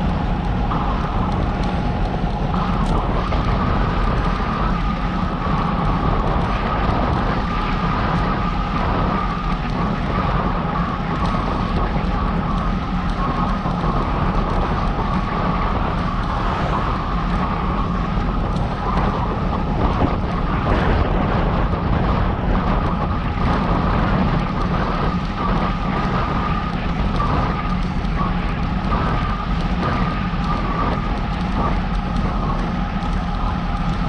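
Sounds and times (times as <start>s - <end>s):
road noise: 0.0s - 34.0s
wind rushing over microphone: 0.0s - 34.0s.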